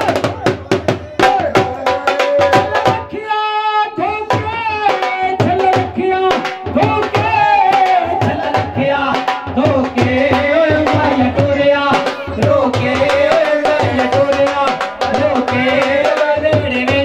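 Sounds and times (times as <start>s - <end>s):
dhol drum fast rhythm: 0.0s - 17.0s
man singing through loudspeaker: 0.0s - 17.0s.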